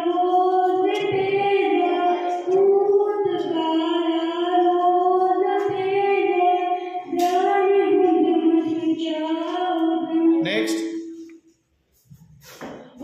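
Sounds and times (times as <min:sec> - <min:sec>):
boy singing into a microphone: 0:00.0 - 0:11.1.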